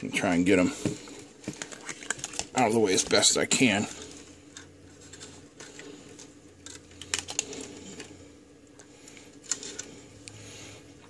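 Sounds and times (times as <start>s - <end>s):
low steady hum: 0.0s - 11.0s
wires rustling against metal: 0.3s - 11.0s.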